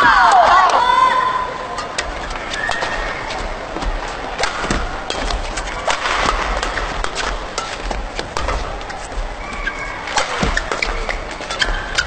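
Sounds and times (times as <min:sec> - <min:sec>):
court shoes squeaking: 0:01.7 - 0:12.0
badminton rackets hitting shuttlecock: 0:01.8 - 0:12.0.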